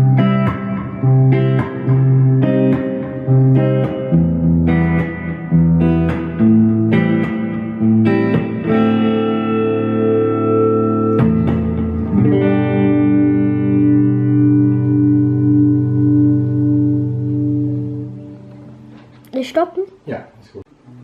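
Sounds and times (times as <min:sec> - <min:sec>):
clean electric guitar chords: 0:00.0 - 0:19.3.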